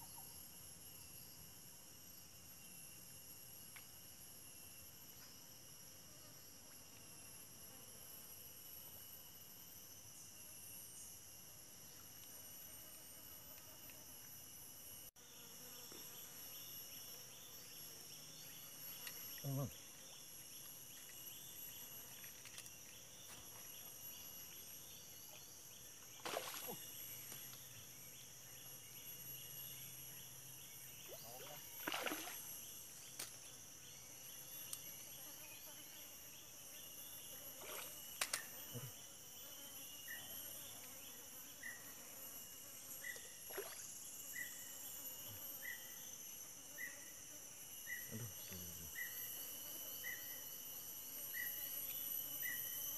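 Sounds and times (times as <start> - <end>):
insect chorus: 0.0 - 52.9.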